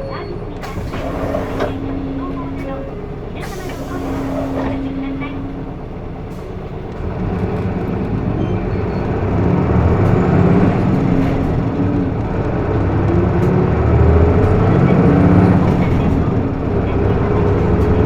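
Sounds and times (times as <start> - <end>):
bus diesel engine accelerating: 0.0 - 18.0.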